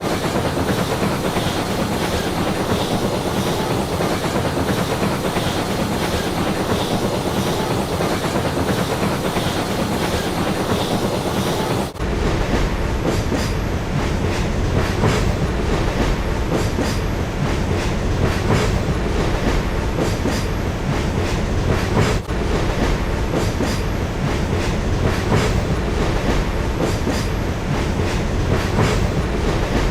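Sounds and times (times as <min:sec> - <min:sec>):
train rumbling on track: 0:00.0 - 0:29.9.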